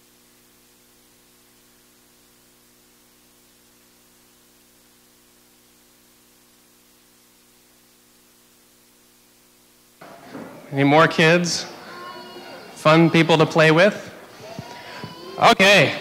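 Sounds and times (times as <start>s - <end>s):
faint steady hiss: 0.0s - 16.0s
low electrical hum: 0.0s - 16.0s.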